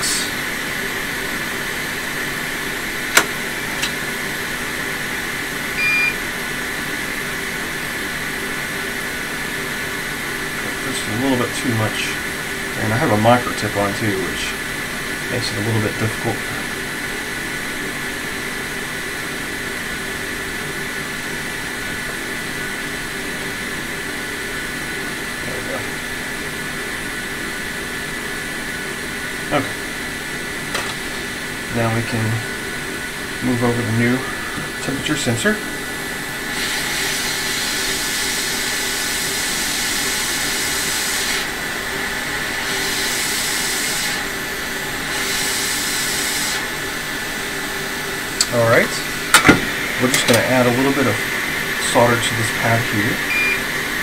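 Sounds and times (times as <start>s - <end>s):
faint high whine: 0.0s - 39.6s, 46.4s - 54.0s
fan hiss and whir: 0.0s - 54.0s.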